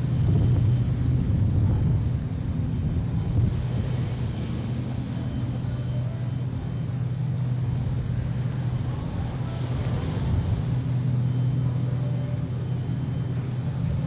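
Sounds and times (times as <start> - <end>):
low machinery hum: 0.0 - 14.0
wind rumbling on microphone: 0.0 - 14.0.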